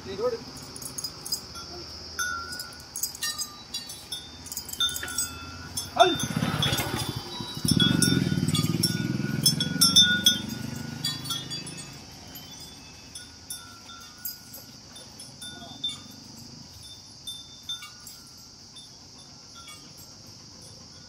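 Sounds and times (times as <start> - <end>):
bell and chains clinking: 0.1 - 21.0.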